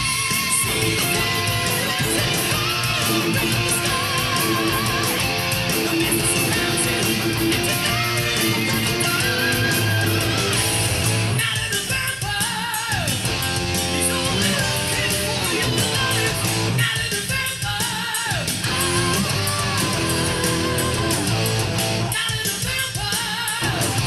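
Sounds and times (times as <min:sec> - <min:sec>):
distorted electric guitar lead: 0:00.0 - 0:17.3, 0:18.3 - 0:22.5, 0:23.6 - 0:24.0.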